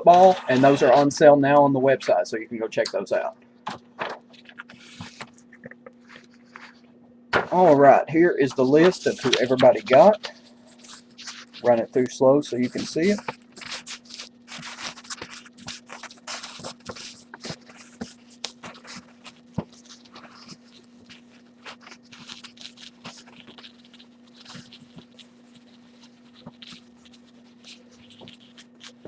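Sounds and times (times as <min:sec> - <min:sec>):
paper sheet rustling: 0:00.0 - 0:02.2, 0:02.8 - 0:06.8, 0:07.4 - 0:29.0
steady low hum: 0:00.0 - 0:29.0.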